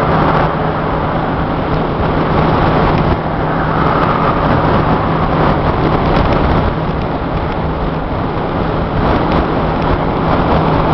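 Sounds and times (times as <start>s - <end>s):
road and wind noise in car: 0.0s - 10.9s.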